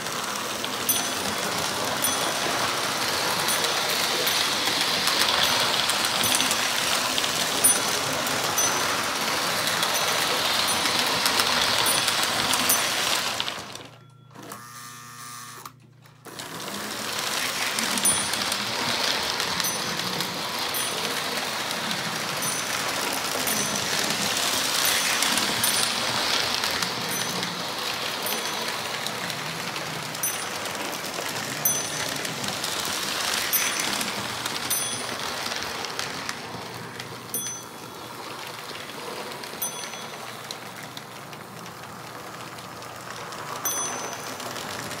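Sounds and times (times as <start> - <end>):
toy train bell ding: 0.0 - 14.8, 16.4 - 41.3, 43.2 - 45.0
toy train whirring and rattling: 0.0 - 45.0.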